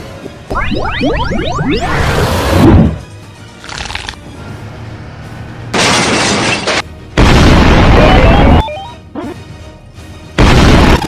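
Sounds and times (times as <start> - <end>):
music: 0.0 - 5.8, 6.5 - 11.0.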